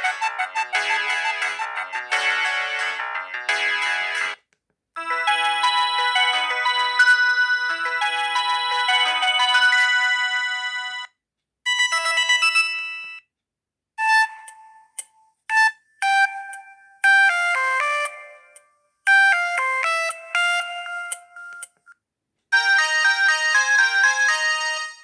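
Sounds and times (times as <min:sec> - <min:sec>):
mobile phone ringtone melodies: 0:00.0 - 0:04.4, 0:05.0 - 0:11.1, 0:11.7 - 0:13.2, 0:16.0 - 0:21.8, 0:22.6 - 0:25.0.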